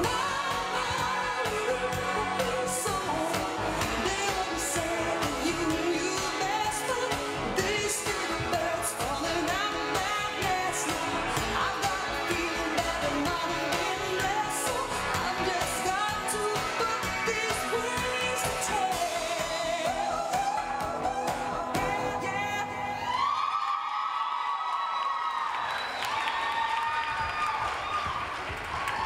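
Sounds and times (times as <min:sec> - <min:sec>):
pop song with singer: 0:00.0 - 0:24.4.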